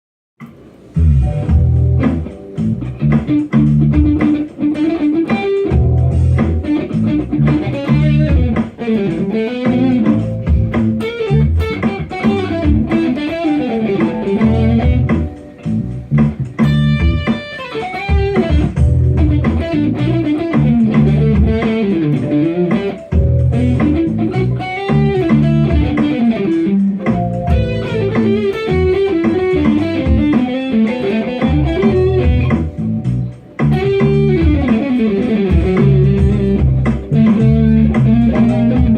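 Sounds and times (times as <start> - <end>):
bass guitar: 0.4 - 38.9
electric guitar: 0.4 - 38.9
steady beat: 0.4 - 38.9.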